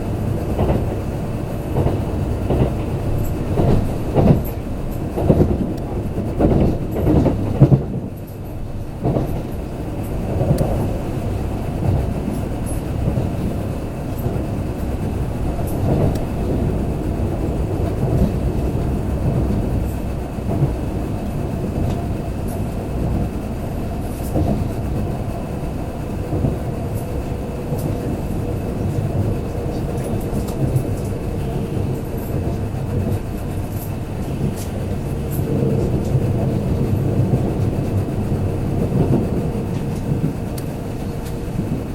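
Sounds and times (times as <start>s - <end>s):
train clicks: 0.0s - 41.9s
train low rumble: 0.0s - 41.9s.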